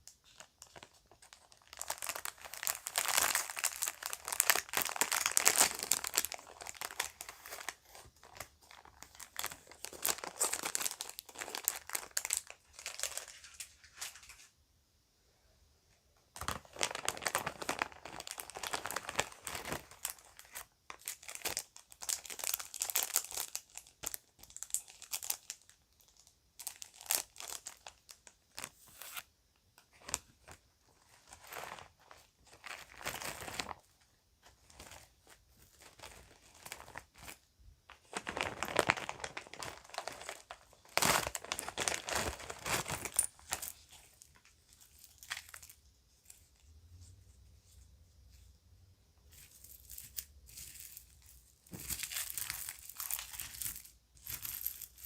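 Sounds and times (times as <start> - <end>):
plastic bag crinkling: 0.0 - 14.4, 16.4 - 28.8, 30.0 - 46.6, 49.3 - 55.0.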